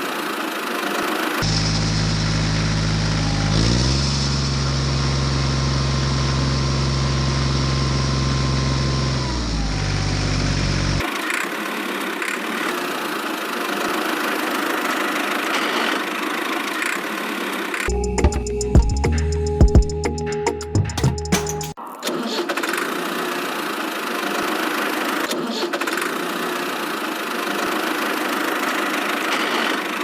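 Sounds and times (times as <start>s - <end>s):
small engine running: 0.0s - 19.5s, 22.6s - 30.0s.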